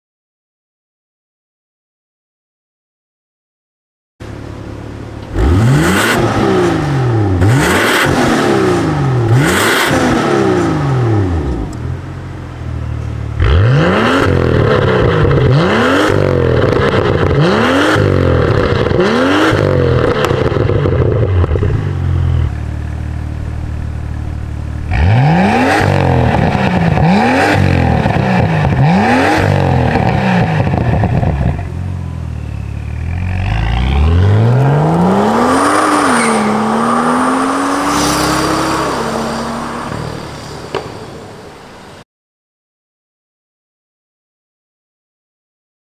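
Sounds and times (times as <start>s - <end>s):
car engine revving: 4.2s - 41.5s.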